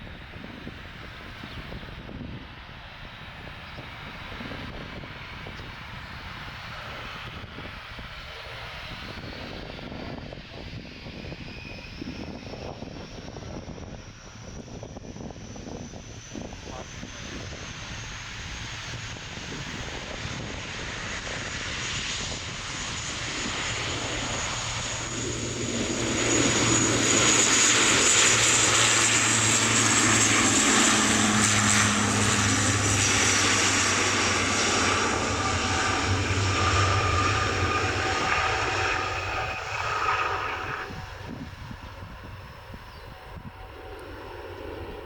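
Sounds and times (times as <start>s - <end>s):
airliner engines passing: 0.0s - 45.0s.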